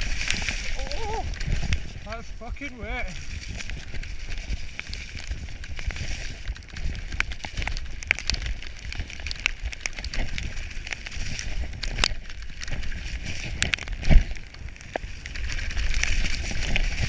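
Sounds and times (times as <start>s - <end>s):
bike clicks and rattles: 0.0s - 17.0s
bike tyres crunching over mud: 0.0s - 17.0s
wind rumble on microphone: 0.0s - 17.0s.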